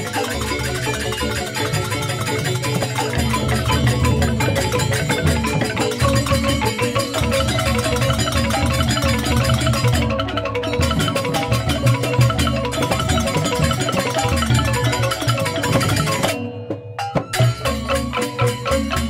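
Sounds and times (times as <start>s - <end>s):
bamboo xylophones struck fast: 0.0s - 19.0s
drums: 0.0s - 19.0s
low gamelan tones: 0.0s - 19.0s.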